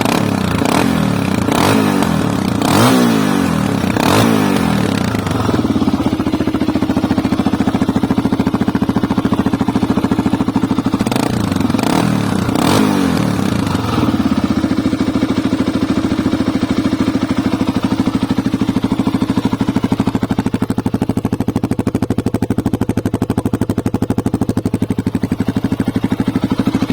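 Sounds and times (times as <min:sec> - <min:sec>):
vehicle engine idling: 0:00.0 - 0:26.9.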